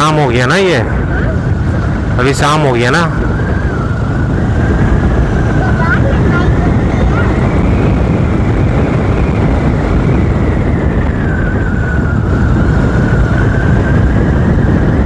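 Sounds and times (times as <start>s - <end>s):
motorcycle engine: 0.0s - 15.0s
wind rush over microphone: 0.0s - 15.0s.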